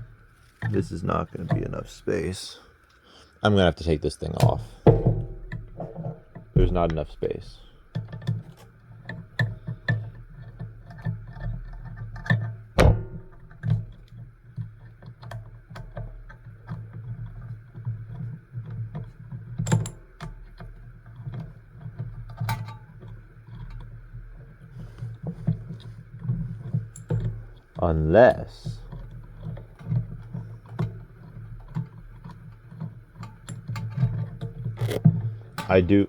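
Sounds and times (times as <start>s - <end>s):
steady low hum: 0.0s - 36.0s
clicks and knocks of hand tools: 4.4s - 27.8s, 28.7s - 36.0s.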